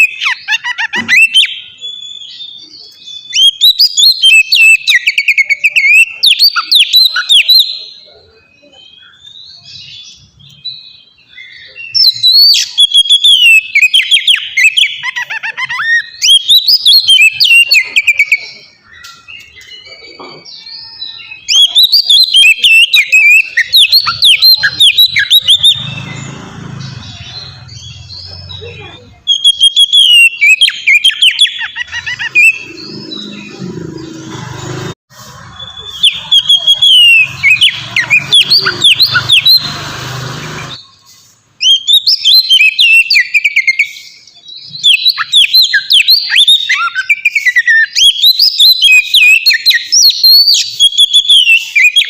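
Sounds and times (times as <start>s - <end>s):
bird singing whistled phrases: 0.0s - 20.0s, 20.8s - 26.2s, 28.8s - 33.2s, 35.4s - 39.7s, 40.7s - 52.0s.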